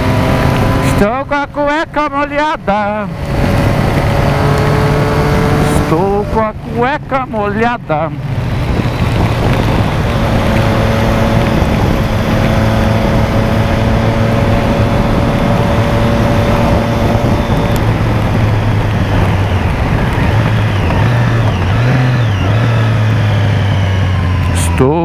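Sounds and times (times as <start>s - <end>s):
motorcycle engine drone: 0.0s - 25.0s
wind rush: 0.0s - 25.0s.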